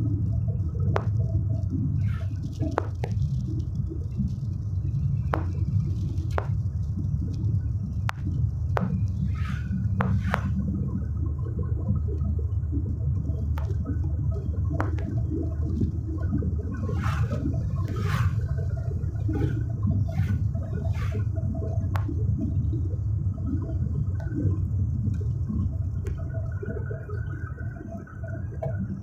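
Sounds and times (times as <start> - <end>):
car engine rumble: 0.0 - 26.4.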